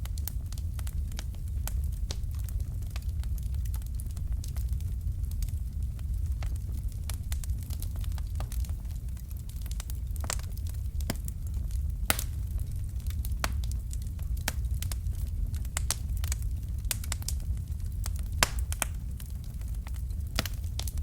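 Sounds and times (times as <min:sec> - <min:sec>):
fireplace fire crackling: 0:00.0 - 0:21.0
low rumble: 0:00.0 - 0:21.0.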